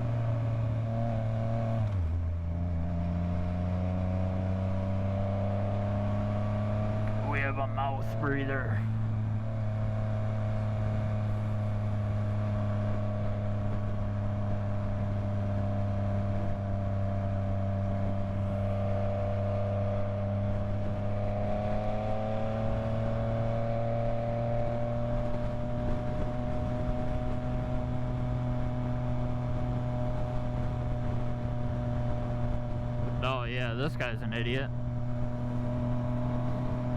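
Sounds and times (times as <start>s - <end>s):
motorcycle engine cruising: 0.0s - 36.9s.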